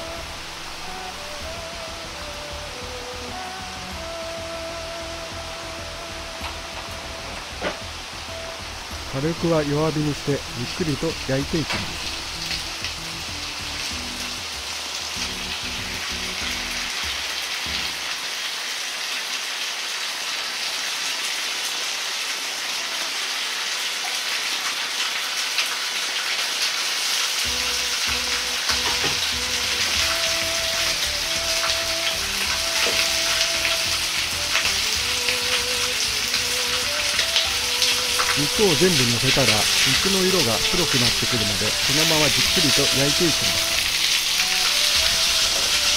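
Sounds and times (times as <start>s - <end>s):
meat sizzling in oil: 5.4s - 45.9s.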